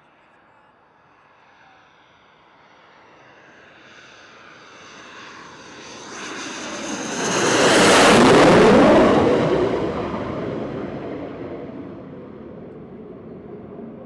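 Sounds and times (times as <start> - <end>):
jet engine whine: 0.0 - 14.0.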